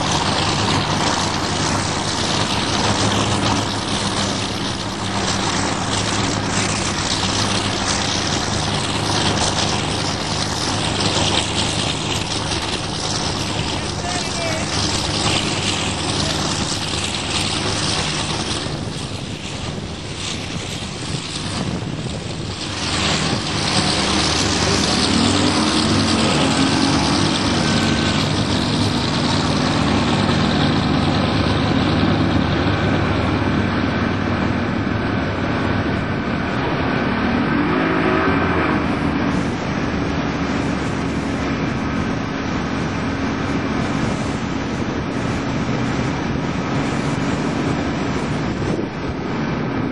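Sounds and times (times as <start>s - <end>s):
motorboat engine running: 0.0s - 49.9s
water rushing past hull: 0.0s - 49.9s
wind: 0.0s - 49.9s.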